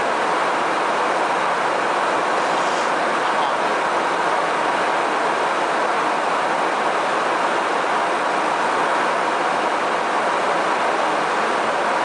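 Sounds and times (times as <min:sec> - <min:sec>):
jet engine and airflow roar: 0:00.0 - 0:12.0.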